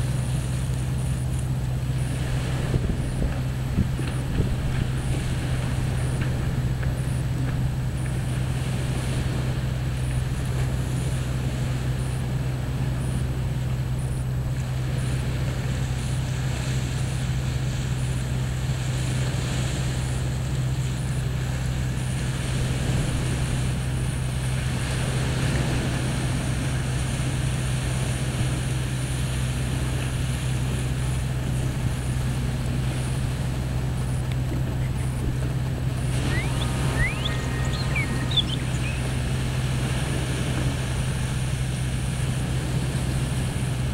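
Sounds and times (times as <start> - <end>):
small waves washing up a beach: 0.0 - 43.9
wind rumble on microphone: 0.0 - 43.9.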